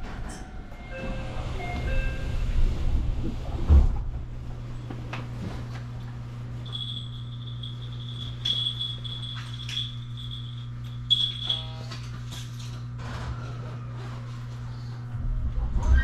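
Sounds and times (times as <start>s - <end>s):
low hum of stopped train: 0.0s - 15.8s.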